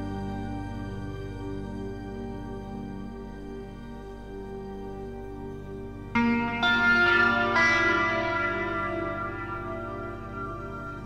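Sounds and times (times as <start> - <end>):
music of long held chords: 0.0 - 11.0.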